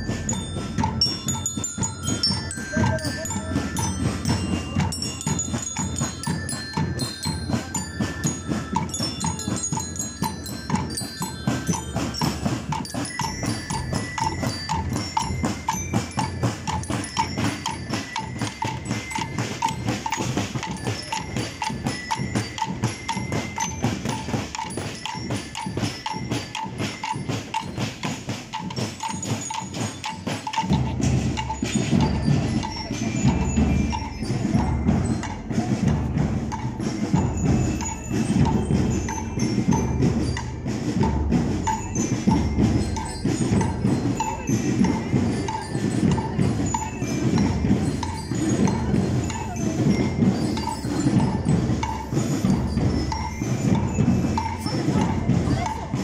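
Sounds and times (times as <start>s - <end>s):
bell lyres playing melody: 0.0s - 56.0s
snare and bass drums: 0.0s - 56.0s.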